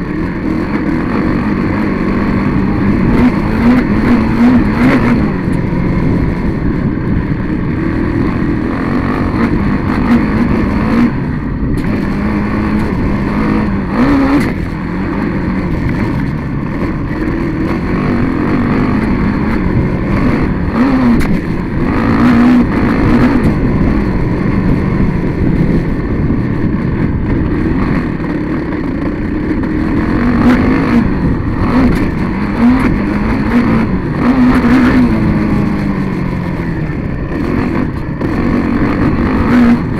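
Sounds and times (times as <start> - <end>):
off-road vehicle engine revving: 0.0 - 39.9
wind rush on microphone: 0.0 - 39.9.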